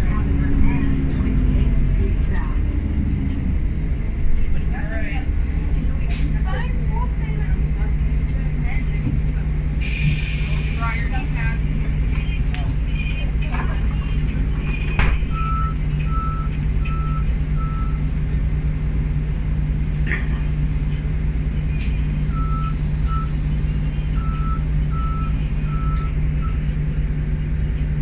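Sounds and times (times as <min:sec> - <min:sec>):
diesel bus engine idling: 0:00.0 - 0:28.0.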